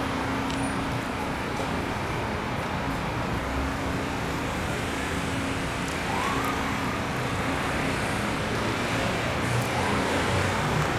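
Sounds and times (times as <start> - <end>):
city street traffic: 0.0 - 10.9.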